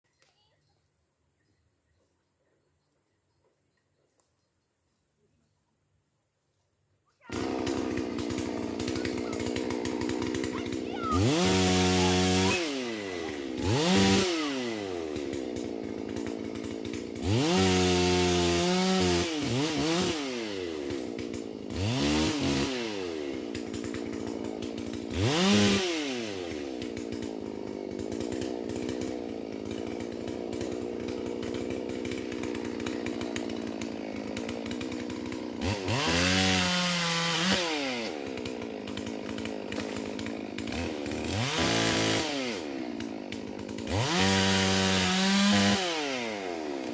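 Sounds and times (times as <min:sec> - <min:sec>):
chainsaw revving and idling: 0:07.2 - 0:46.9.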